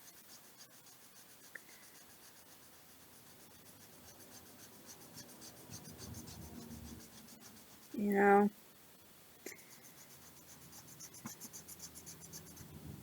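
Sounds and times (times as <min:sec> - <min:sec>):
light scratching: 0:00.0 - 0:08.5, 0:09.5 - 0:13.0.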